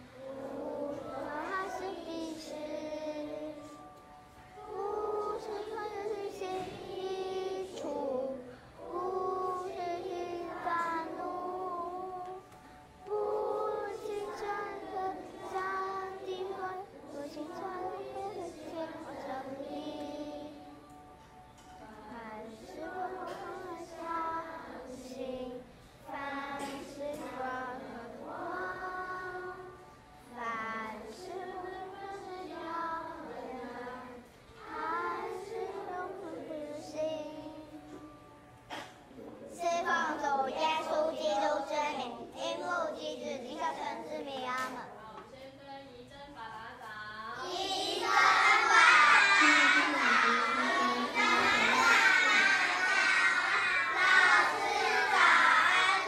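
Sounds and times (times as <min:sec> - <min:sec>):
children singing: 0:00.0 - 0:44.9, 0:47.4 - 0:56.0.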